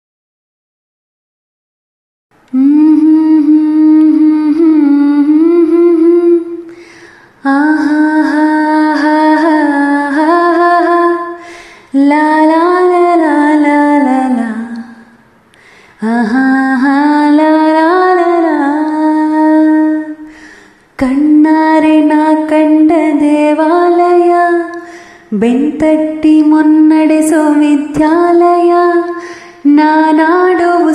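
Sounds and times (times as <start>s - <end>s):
woman singing wordless melody: 2.5s - 15.3s, 16.0s - 30.9s.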